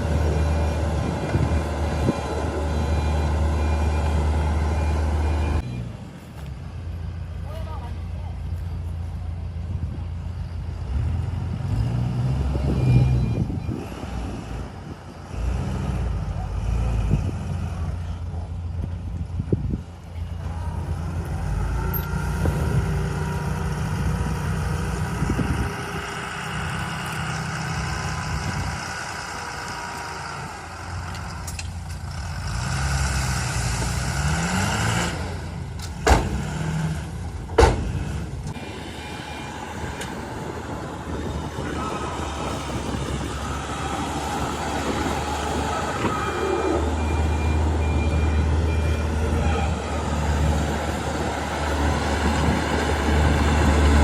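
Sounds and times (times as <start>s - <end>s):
heavy diesel engine running: 0.0s - 13.8s, 14.5s - 54.0s.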